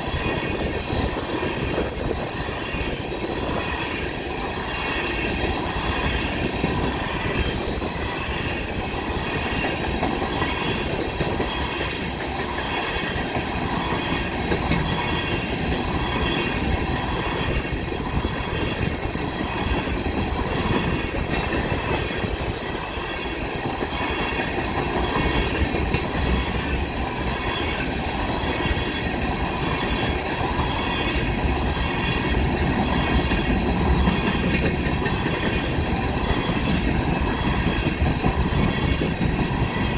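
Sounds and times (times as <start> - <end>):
train wheels clattering on rail: 0.0 - 39.9.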